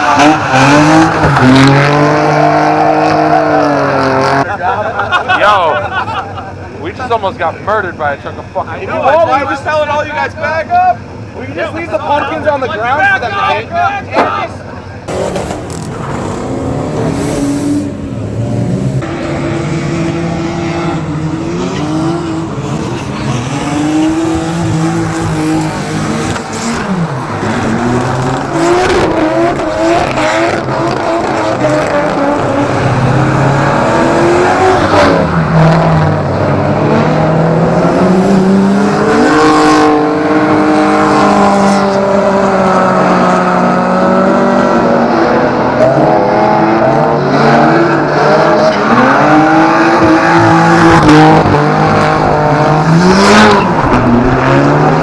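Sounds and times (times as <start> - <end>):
car engines revving hard: 0.0 - 10.3, 15.0 - 55.0.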